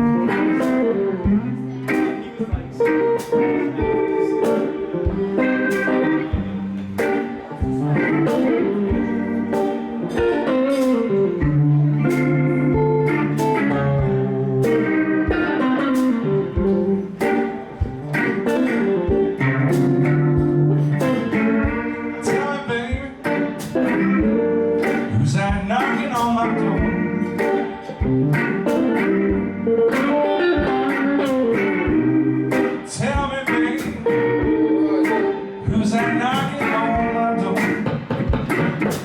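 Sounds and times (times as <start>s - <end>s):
blues band playing: 0.0s - 39.0s
electric guitar: 0.0s - 39.0s.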